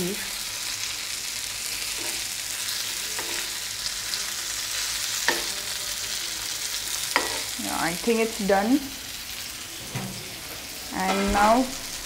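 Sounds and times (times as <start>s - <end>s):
fish sizzling in pan: 0.0s - 12.0s.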